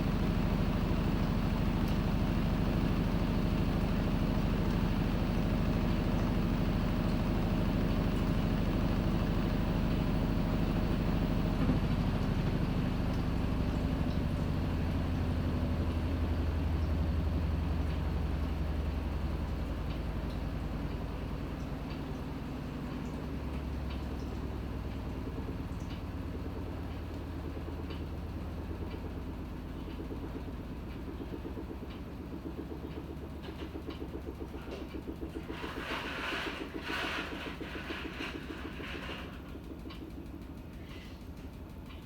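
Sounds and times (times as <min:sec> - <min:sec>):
washing machine running: 0:00.0 - 0:42.0.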